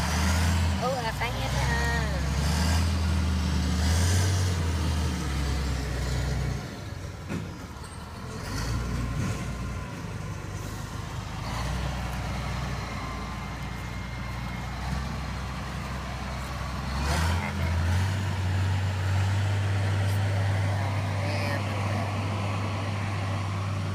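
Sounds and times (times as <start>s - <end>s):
diesel engine drone: 0.0s - 23.9s.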